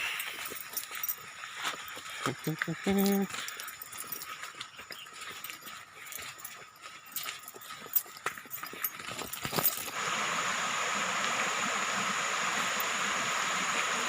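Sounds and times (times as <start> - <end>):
stream water flowing: 0.0 - 14.0.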